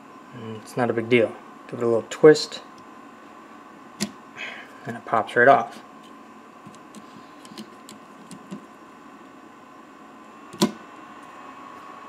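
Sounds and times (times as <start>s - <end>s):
steady faint hum: 0.0s - 12.0s.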